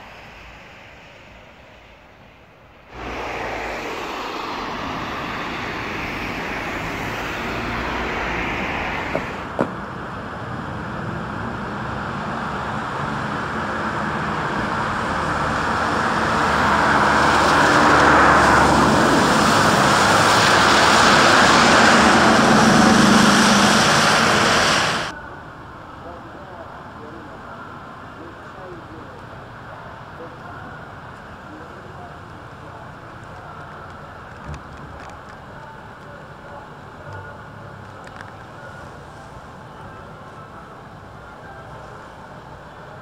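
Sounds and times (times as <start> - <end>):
passing train rumbling: 0.0 - 43.0.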